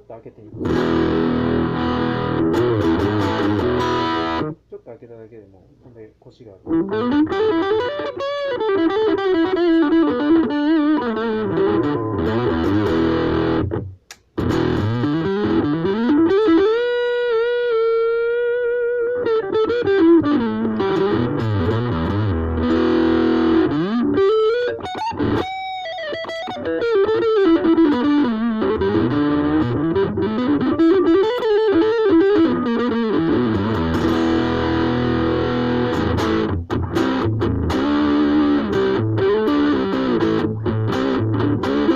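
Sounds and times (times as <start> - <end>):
electric guitar lead line: 0.6 - 4.6, 6.7 - 41.9.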